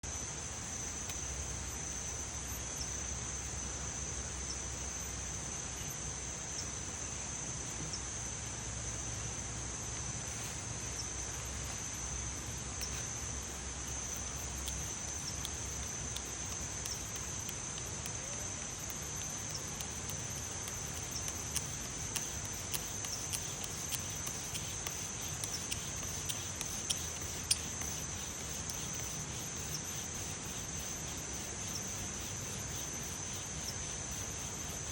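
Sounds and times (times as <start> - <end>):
crickets trilling: 0.0 - 34.9
small sharp ticks and crackles: 0.1 - 3.6, 10.0 - 34.9.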